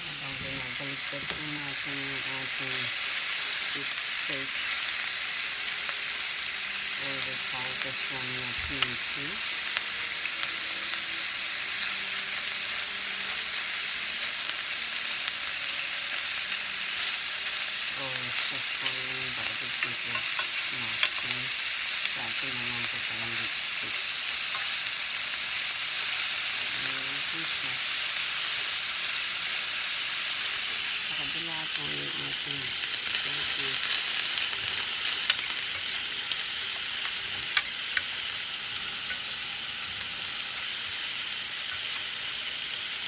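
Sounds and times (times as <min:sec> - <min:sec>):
meat sizzling in a frying pan: 0:00.0 - 0:43.0.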